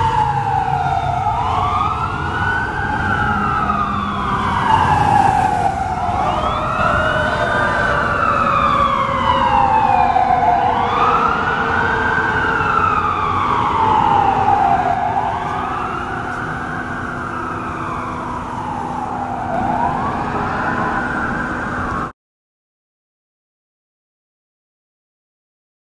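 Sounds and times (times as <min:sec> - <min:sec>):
city traffic: 0:00.0 - 0:22.1
second siren: 0:00.0 - 0:22.1
siren wailing: 0:00.0 - 0:22.1.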